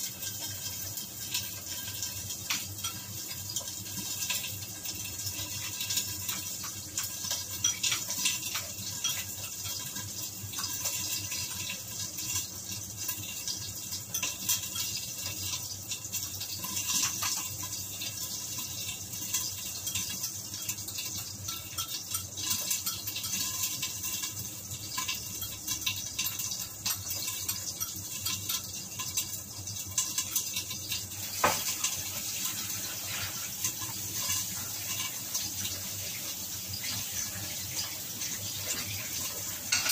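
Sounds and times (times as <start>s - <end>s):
meat sizzling and popping in fat: 0.0s - 39.9s.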